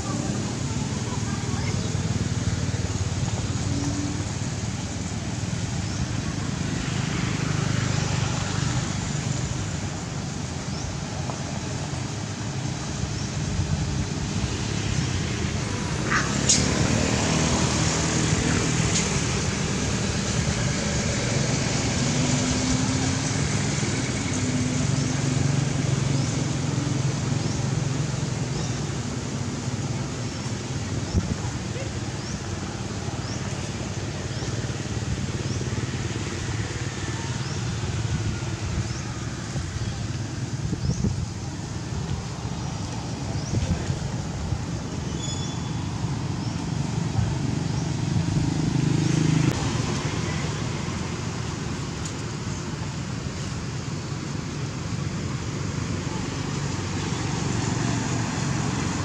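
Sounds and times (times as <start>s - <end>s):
low rumble of outdoor background: 0.0s - 59.0s.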